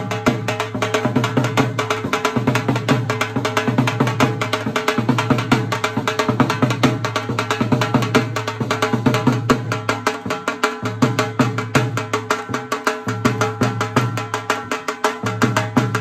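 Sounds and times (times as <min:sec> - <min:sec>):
dhol drumming: 0:00.0 - 0:16.0.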